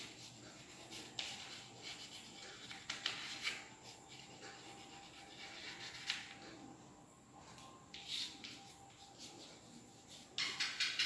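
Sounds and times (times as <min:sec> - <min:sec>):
chalk scratching on blackboard: 0:00.0 - 0:06.4, 0:08.0 - 0:11.0.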